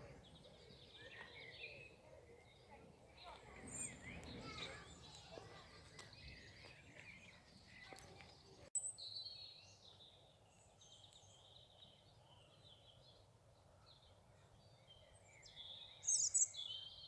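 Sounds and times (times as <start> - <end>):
songbirds chirping and singing: 0.0 - 13.3, 13.9 - 17.0.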